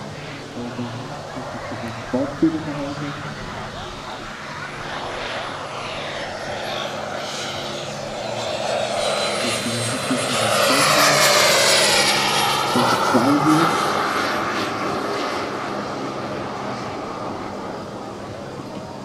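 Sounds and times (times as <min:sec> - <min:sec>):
model turboprop plane passing: 0:00.0 - 0:19.0.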